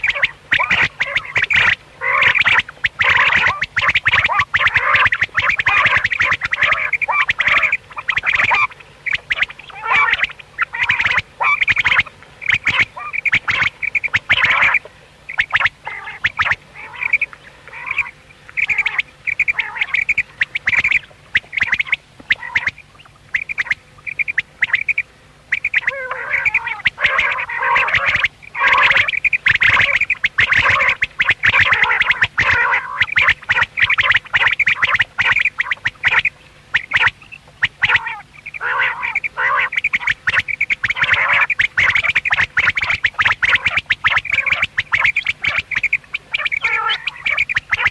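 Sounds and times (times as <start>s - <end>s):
quail calling in short high notes: 0.0s - 47.9s.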